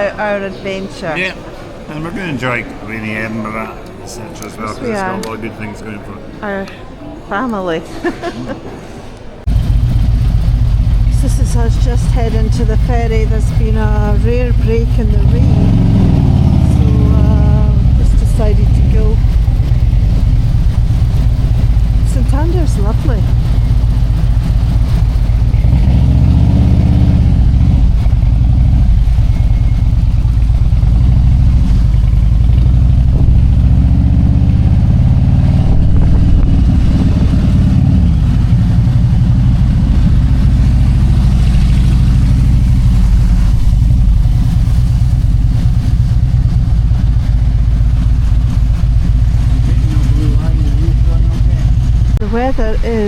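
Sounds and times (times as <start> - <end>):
motorcycle engine running: 9.5 - 53.0.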